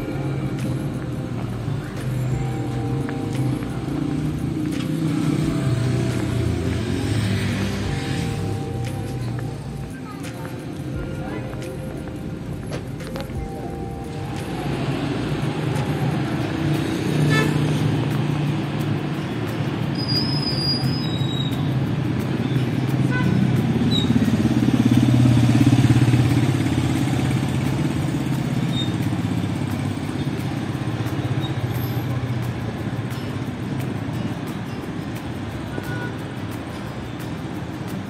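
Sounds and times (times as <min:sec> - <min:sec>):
vehicle engines passing: 0:00.0 - 0:38.0.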